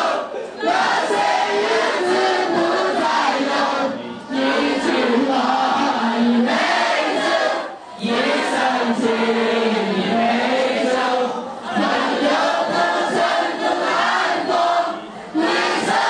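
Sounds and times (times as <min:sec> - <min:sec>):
group singing long notes: 0:00.0 - 0:16.0.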